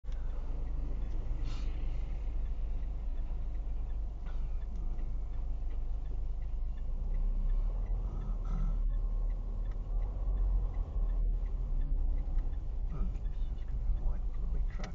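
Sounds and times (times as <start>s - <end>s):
car engine from inside cabin: 0.0s - 14.9s
traffic rumble: 0.0s - 14.9s.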